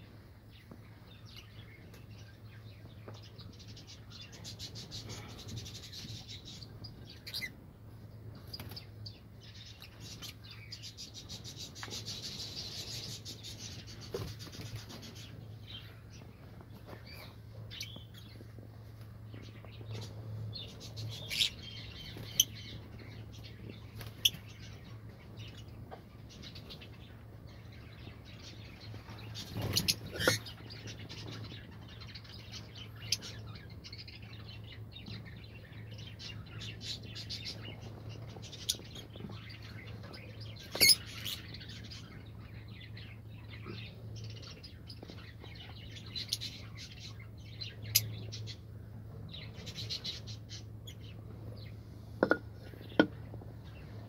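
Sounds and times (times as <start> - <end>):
lovebirds chirping: 0.0 - 54.0
steady low hum: 0.0 - 54.0.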